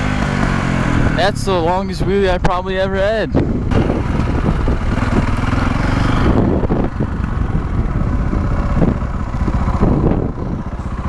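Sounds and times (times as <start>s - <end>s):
dirt bike engine running: 0.0s - 11.0s
wind rushing on microphone: 0.8s - 11.0s.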